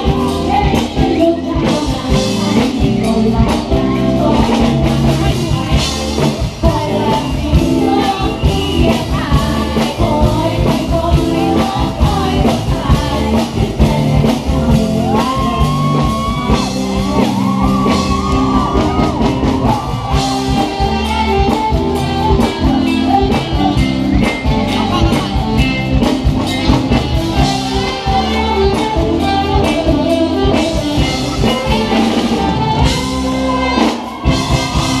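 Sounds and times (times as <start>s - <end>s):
drum kit: 0.0s - 35.0s
guitar: 0.0s - 35.0s
person singing: 0.0s - 35.0s.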